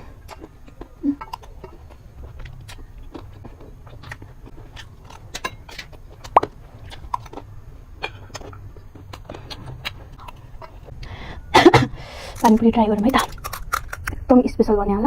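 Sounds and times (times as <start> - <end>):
person chewing food: 0.0 - 14.2.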